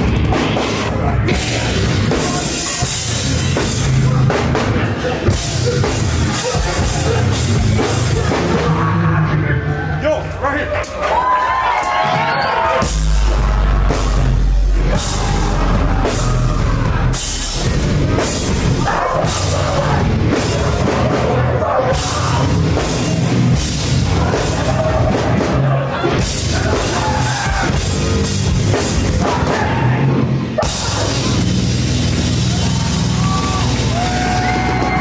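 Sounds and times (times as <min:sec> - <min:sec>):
live heavy rock band: 0:00.0 - 0:09.8, 0:11.9 - 0:35.0.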